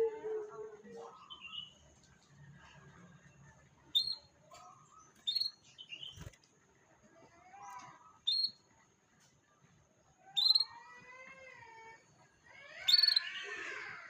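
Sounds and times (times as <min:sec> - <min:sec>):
canary song: 0:00.8 - 0:14.0.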